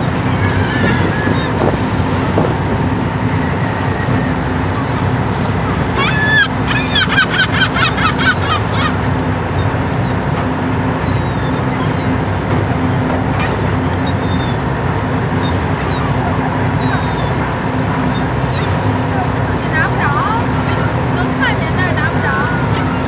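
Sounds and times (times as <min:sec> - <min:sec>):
boat engine hum: 0:00.0 - 0:23.0
gulls calling: 0:00.0 - 0:23.0
water washing: 0:00.0 - 0:23.0.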